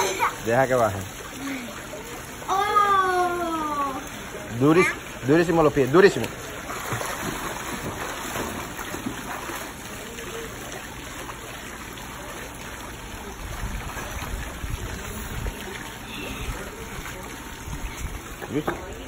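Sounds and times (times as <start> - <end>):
pool water splashing: 0.0 - 19.0.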